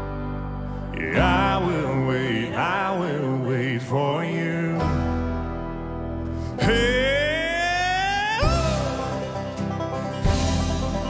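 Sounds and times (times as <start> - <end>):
acoustic guitar strumming: 0.0 - 11.0
live folk-rock band: 0.0 - 11.0.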